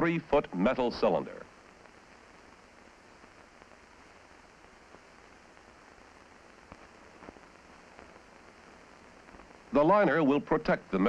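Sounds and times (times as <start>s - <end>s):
film soundtrack hiss: 0.0s - 11.0s.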